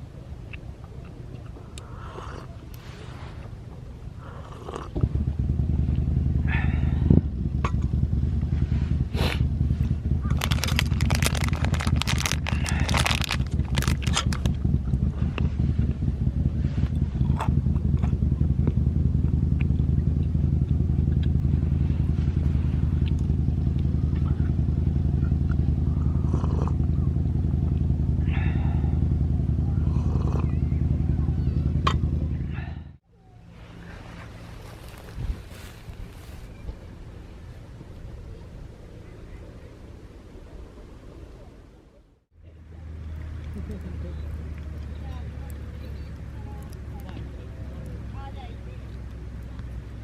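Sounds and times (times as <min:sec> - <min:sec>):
vehicle engine droning: 0:00.0 - 0:50.0.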